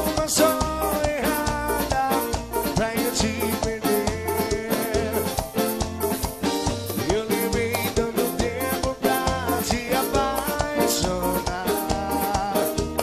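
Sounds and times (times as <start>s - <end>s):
drum kit beat: 0.0s - 13.0s
instrumental band music: 0.0s - 13.0s
pulsing bass: 0.0s - 13.0s.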